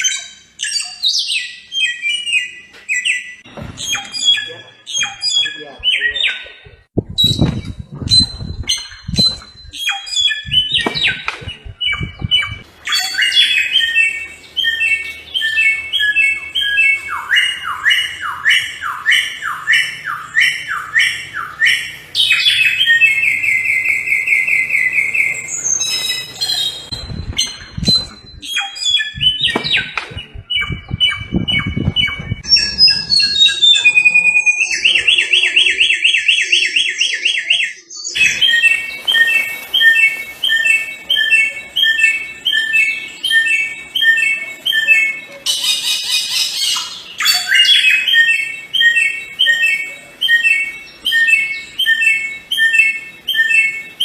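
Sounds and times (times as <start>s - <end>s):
songbird singing whistles and trills: 0.0s - 54.0s.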